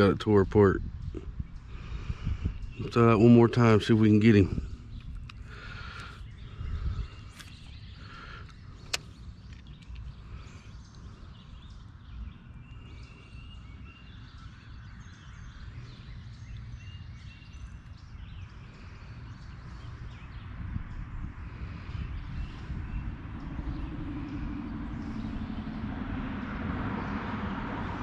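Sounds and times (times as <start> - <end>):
birds chirping: 0.0 - 28.0
steady low rumble: 0.0 - 28.0.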